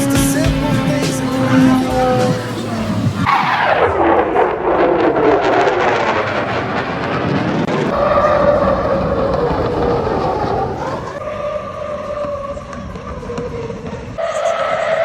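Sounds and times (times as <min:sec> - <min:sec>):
loud engine whine: 0:00.0 - 0:15.0.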